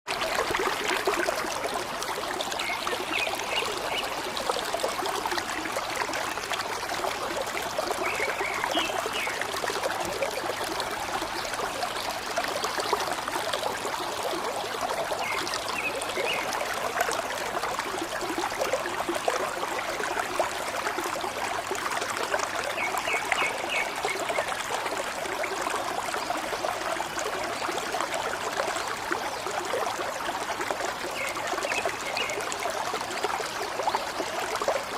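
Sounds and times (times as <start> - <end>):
stream gurgling and trickling: 0.0 - 34.9.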